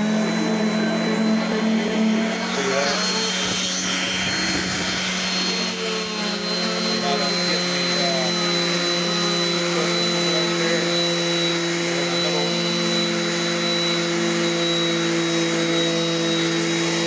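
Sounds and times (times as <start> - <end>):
orbital sander sanding wood: 0.0 - 17.0.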